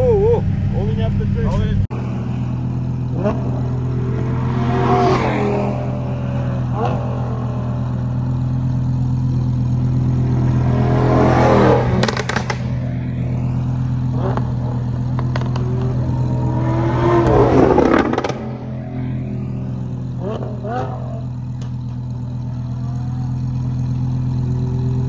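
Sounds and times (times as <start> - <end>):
low engine drone: 0.0 - 25.0
cars driving past: 1.9 - 25.0
exhaust crackles: 2.8 - 25.0.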